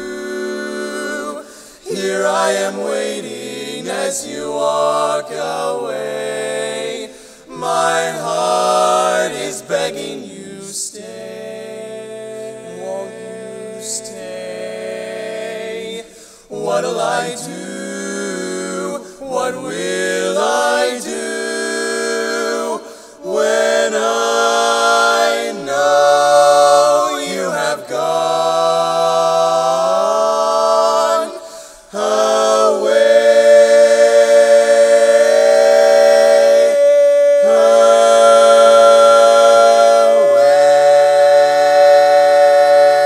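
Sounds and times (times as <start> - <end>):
male quartet singing a cappella: 0.0 - 43.0.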